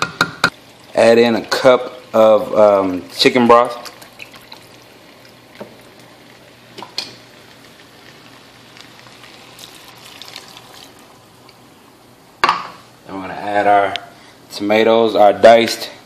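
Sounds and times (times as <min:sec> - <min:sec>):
pot sizzling and bubbling: 0:00.0 - 0:14.6.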